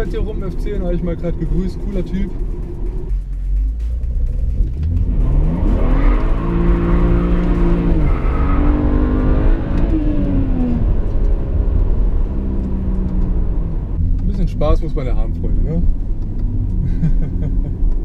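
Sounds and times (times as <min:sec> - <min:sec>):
car engine revving inside cabin: 0:00.0 - 0:18.0.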